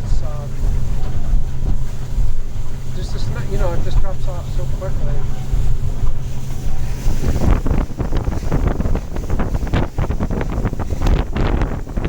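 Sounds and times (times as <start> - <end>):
boat low rumble: 0.0 - 12.0
wind buffeting microphone: 0.0 - 12.0.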